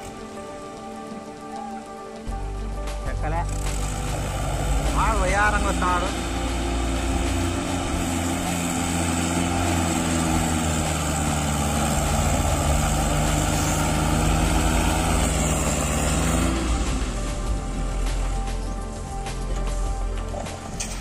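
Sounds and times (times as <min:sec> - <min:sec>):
tractor diesel engine running: 0:02.4 - 0:21.0.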